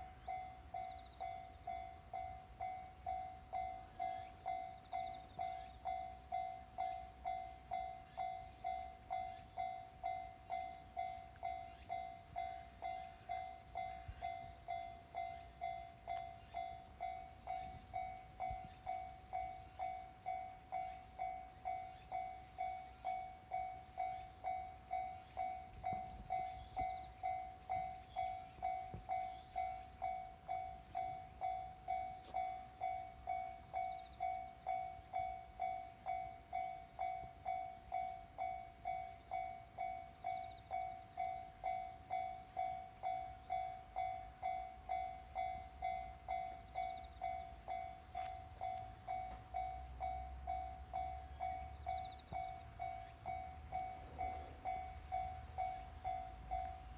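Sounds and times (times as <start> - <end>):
level crossing warning bell: 0.0 - 56.9.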